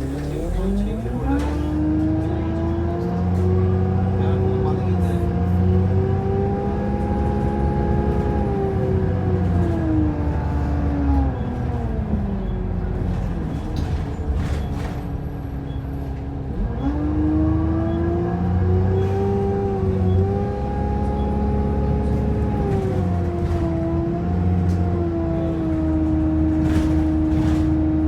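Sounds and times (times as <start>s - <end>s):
bus drivetrain whine: 0.0s - 28.0s
low bus engine rumble: 0.0s - 28.0s.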